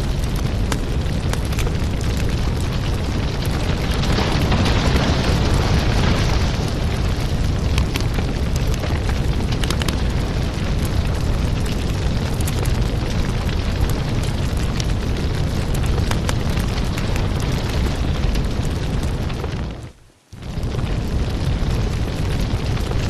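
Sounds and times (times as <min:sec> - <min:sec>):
flame rumbling: 0:00.0 - 0:23.0
wood crackling and popping: 0:00.0 - 0:23.0.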